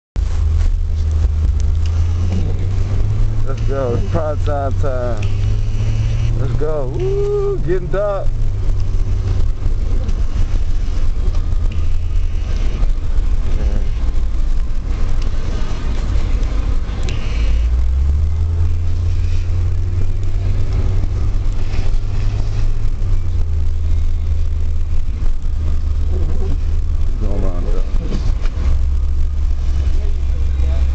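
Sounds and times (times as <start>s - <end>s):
car engine and road rumble: 0.2s - 30.9s.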